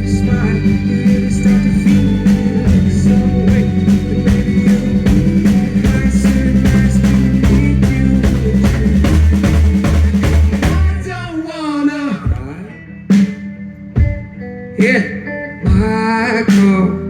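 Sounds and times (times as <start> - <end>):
rock band playing: 0.0 - 11.5, 12.1 - 17.0.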